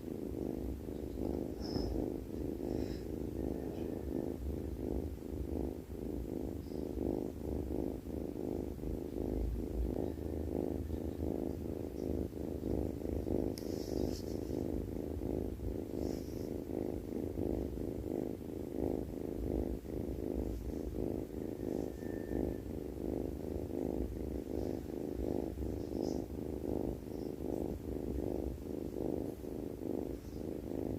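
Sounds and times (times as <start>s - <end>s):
cat snoring: 0.0s - 30.9s.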